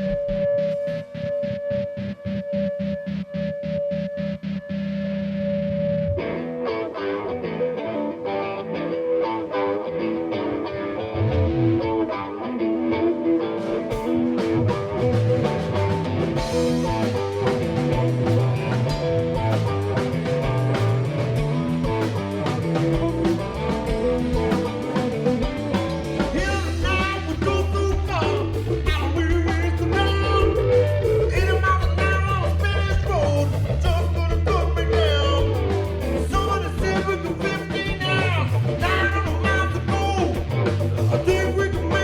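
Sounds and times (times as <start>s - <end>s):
bass guitar: 0.0s - 42.0s
drums: 0.0s - 42.0s
electric guitar: 0.0s - 42.0s.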